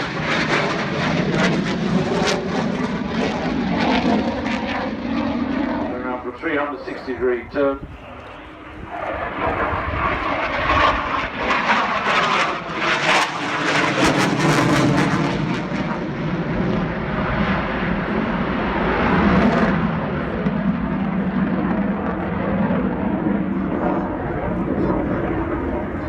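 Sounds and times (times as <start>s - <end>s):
fighter jet roaring: 0.0s - 26.0s.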